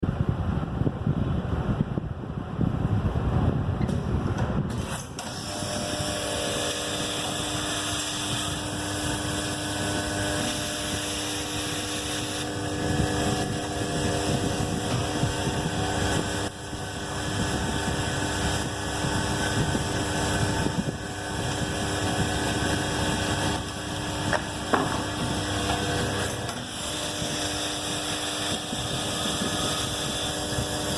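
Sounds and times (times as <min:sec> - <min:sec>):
welding machine hum and whine: 0:00.1 - 0:30.9.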